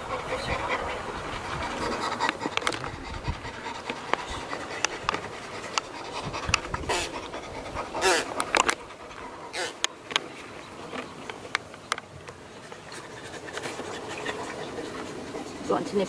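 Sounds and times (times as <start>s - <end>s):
chimpanzee panting: 0.0s - 10.0s, 12.6s - 16.0s.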